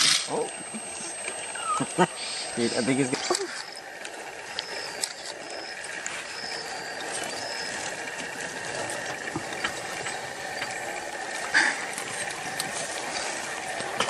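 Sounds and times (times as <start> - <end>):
porcupine rattling quills: 0.0 - 14.0.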